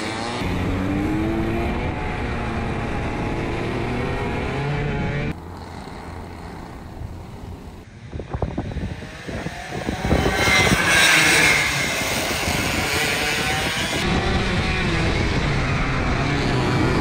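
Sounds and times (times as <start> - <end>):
go-kart engine running steadily: 0.0 - 17.0
go-kart engines buzzing: 0.0 - 17.0.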